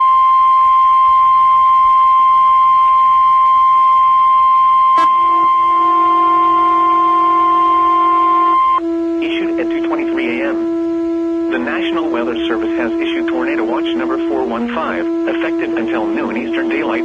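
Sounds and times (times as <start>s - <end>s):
lower tone with overtones: 0.0s - 17.0s.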